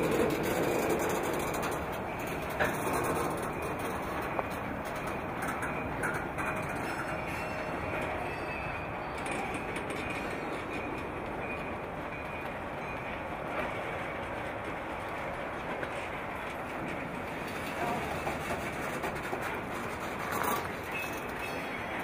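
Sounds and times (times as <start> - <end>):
steel train wheels on rails: 0.0 - 22.0.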